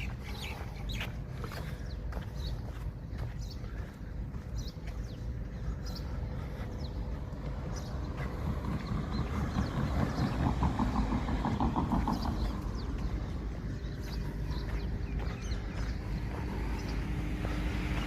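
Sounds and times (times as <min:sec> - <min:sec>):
motor vehicle passing: 0:00.0 - 0:18.0.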